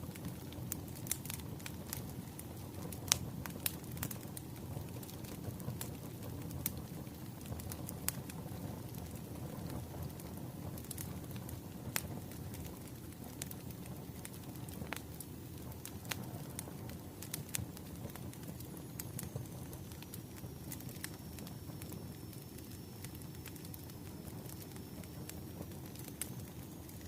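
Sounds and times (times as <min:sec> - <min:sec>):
burning logs popping and crackling: 0:00.0 - 0:27.0
low rumble of flames: 0:00.0 - 0:27.0.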